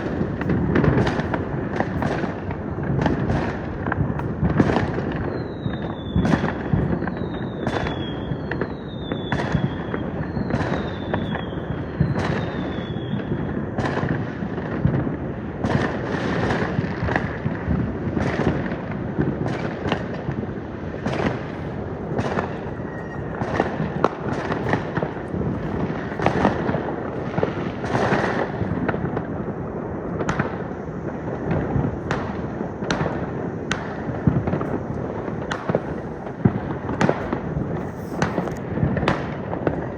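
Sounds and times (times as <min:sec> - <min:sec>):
falling firework whistles: 0:00.0 - 0:14.8, 0:15.6 - 0:29.3, 0:30.2 - 0:39.9
fireworks bangs and crackling: 0:00.0 - 0:39.9.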